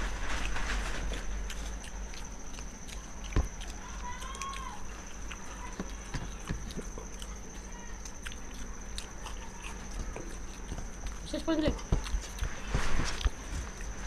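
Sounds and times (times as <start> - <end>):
chewing clicks and smacks: 1.4 - 14.0.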